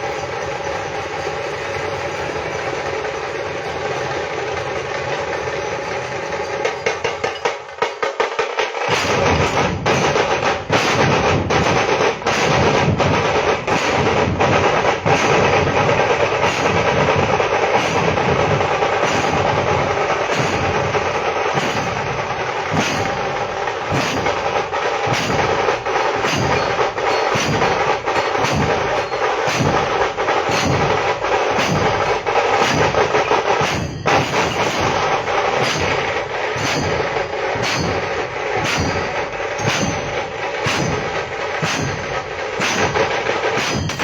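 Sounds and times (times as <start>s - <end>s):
continuous percussion clatter: 0.0s - 44.0s
loud drum beat: 0.0s - 44.0s.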